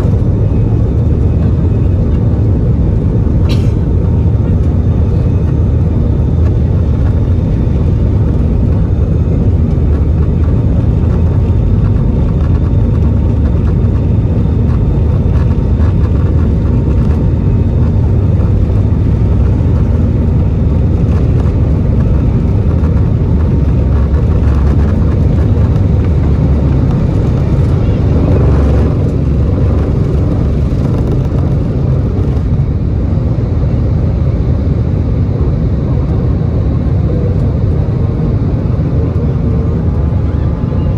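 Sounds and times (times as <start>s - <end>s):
faint steady whine: 0.0s - 40.9s
jet engines at takeoff thrust: 0.0s - 40.9s
wheels rumbling on runway: 0.0s - 40.9s.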